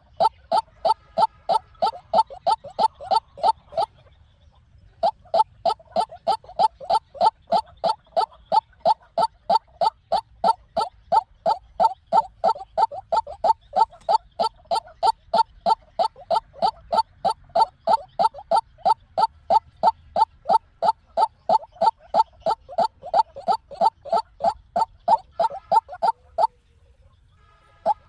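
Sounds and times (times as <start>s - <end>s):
waterhen calling: 0.0s - 4.0s, 4.9s - 26.6s, 27.7s - 28.0s.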